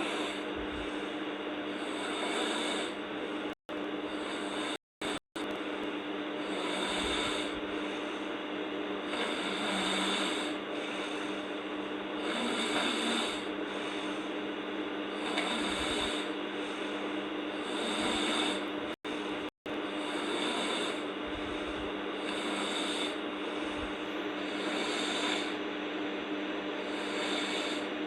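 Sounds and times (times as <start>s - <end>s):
girl snoring: 0.0s - 5.2s, 6.4s - 8.3s, 9.0s - 14.3s, 15.0s - 19.0s, 19.8s - 25.6s, 26.8s - 28.0s
steady low hum: 0.0s - 28.0s.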